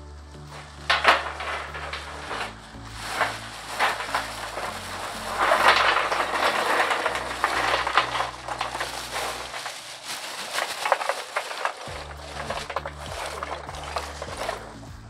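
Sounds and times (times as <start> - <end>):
background music with bass line: 0.0 - 15.0
crunching handling noises: 0.5 - 15.0.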